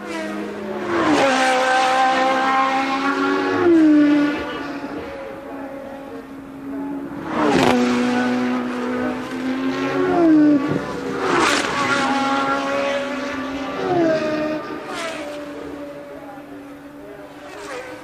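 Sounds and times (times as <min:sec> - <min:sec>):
racing cars passing: 0:00.0 - 0:18.0.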